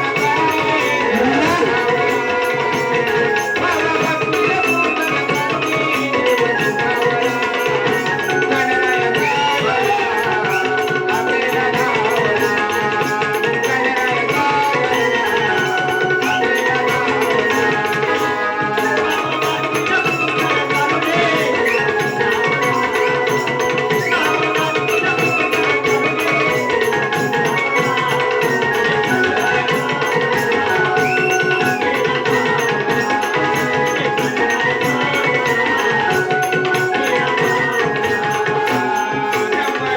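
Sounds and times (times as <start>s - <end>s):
hand drum rhythm: 0.0s - 39.9s.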